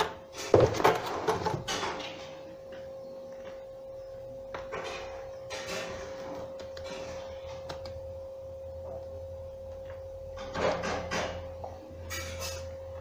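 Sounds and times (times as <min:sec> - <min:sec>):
steady tone over low hum: 0:01.2 - 0:13.0.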